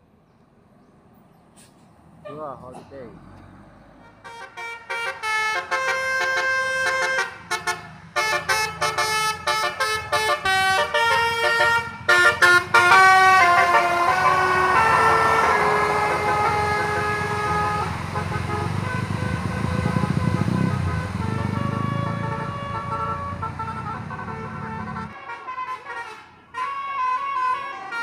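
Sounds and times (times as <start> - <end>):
bus engine and tyre noise: 0.0 - 28.0
musical bus horn playing tune: 4.0 - 28.0.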